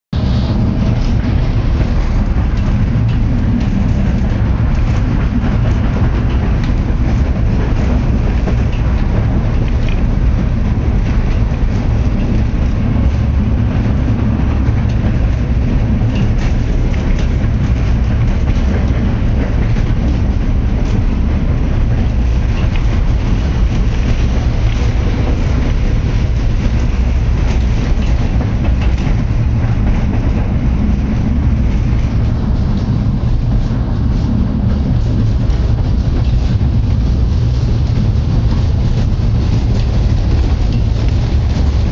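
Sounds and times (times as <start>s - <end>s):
rail vehicle rumbling: 0.0s - 41.9s
wheels clicking on track: 0.2s - 41.9s.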